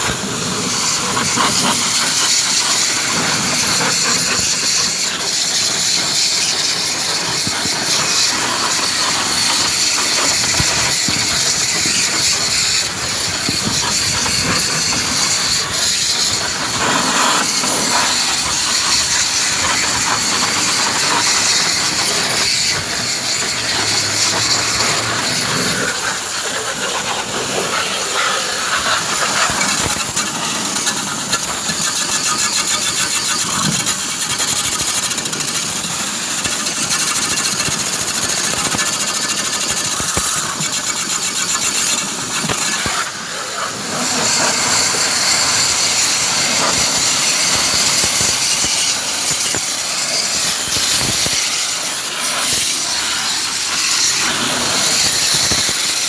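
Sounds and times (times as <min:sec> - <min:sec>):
loud hissing: 0:00.0 - 0:56.0
motor running: 0:00.9 - 0:56.0.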